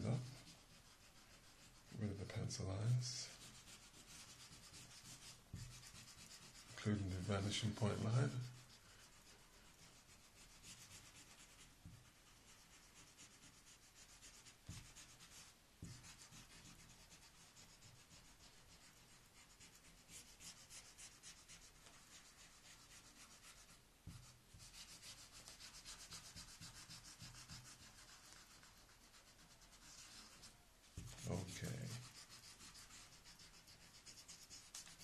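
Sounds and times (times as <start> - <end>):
eraser scrubbing on paper: 0.0 - 35.0.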